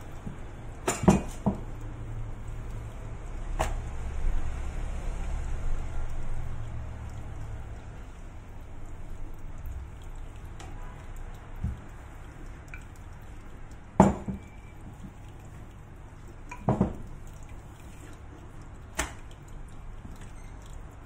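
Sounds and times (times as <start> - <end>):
kitchen background noise: 0.0 - 21.0.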